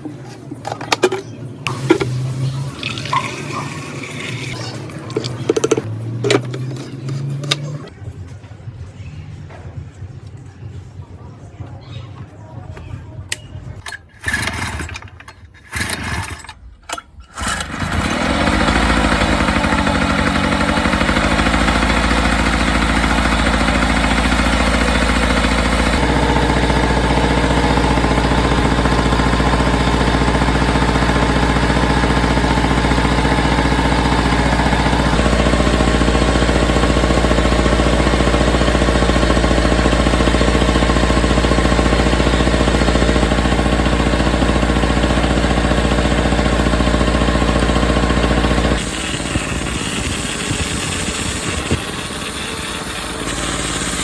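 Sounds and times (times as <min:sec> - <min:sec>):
generator engine cranking: 0:00.0 - 0:07.9, 0:13.3 - 0:54.0
generator engine running: 0:00.0 - 0:08.0, 0:17.4 - 0:54.0.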